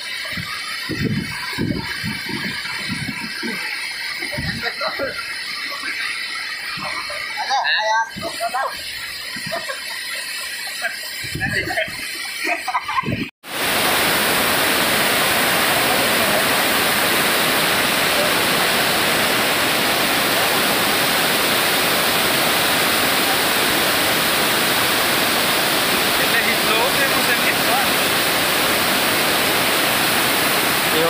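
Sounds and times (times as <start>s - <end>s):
water rushing over spillway: 0.0s - 12.7s, 13.4s - 31.0s.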